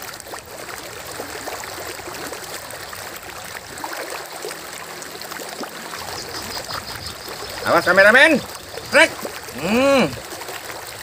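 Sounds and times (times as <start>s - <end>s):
river water babbling: 0.0s - 11.0s.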